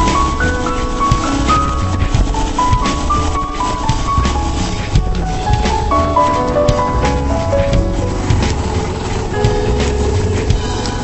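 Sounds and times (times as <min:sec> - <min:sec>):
music with held notes: 0:00.0 - 0:11.0
pulsing bass beat: 0:00.0 - 0:11.0.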